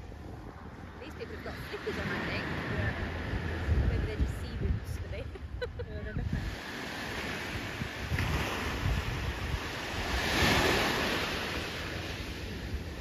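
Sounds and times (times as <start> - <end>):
small waves breaking on shore: 0.0 - 13.0
wind rumble on microphone: 0.0 - 13.0.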